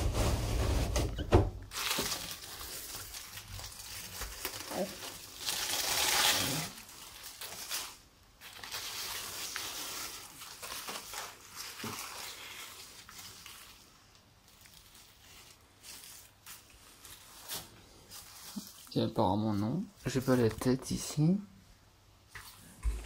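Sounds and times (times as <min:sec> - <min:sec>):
dry snake skin rustling: 0:01.7 - 0:20.8.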